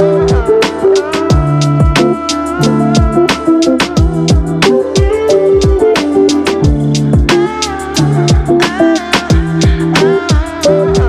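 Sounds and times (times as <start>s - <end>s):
sharp percussion hits: 0.0s - 11.0s
sustained pitched notes: 0.0s - 11.0s
deep kick drums: 1.3s - 6.0s, 6.6s - 11.0s.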